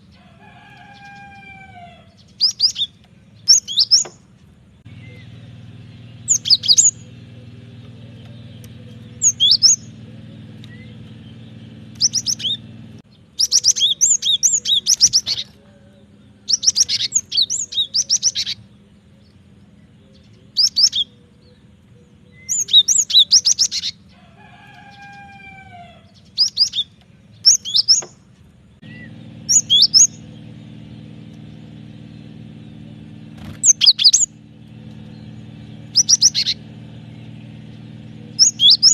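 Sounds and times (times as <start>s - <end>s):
bird chirping song: 0.0s - 38.9s
low steady hum: 0.0s - 38.9s.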